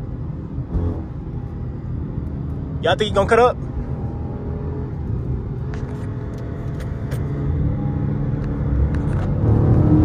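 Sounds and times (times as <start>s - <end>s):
car engine running: 0.0s - 9.9s
road and tyre noise: 0.0s - 10.0s.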